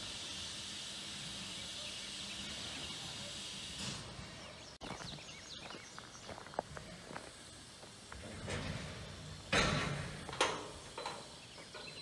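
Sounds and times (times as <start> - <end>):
steam locomotive hissing: 0.0 - 4.8, 6.4 - 12.0.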